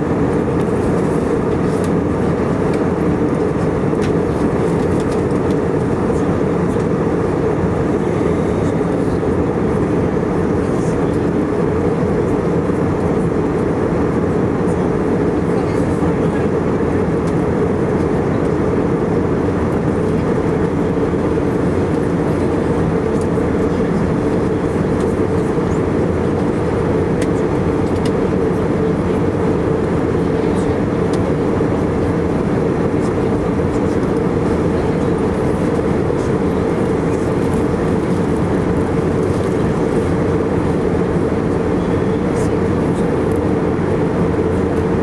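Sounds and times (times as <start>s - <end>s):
aircraft cabin drone: 0.0s - 45.0s.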